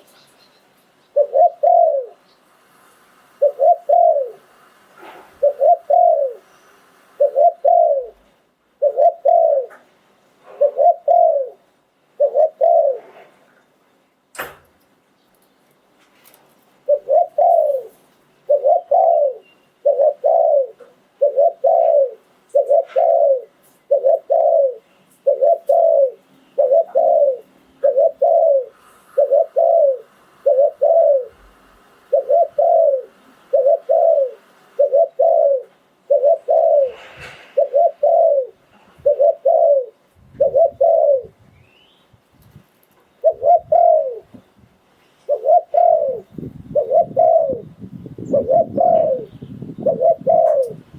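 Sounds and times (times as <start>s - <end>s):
dove cooing: 1.1s - 2.2s, 3.4s - 13.4s, 16.8s - 41.4s, 43.2s - 44.4s, 45.3s - 50.9s.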